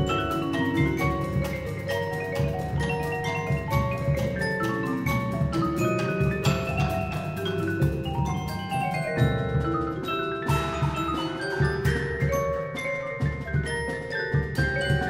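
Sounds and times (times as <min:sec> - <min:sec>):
marimbas and vibraphone: 0:00.0 - 0:15.0
timpani and drums: 0:00.0 - 0:15.0.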